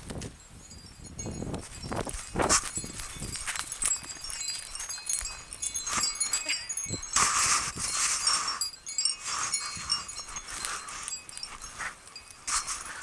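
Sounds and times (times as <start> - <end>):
dog collar tags jingling: 0.7 - 13.0
rustling: 1.3 - 13.0.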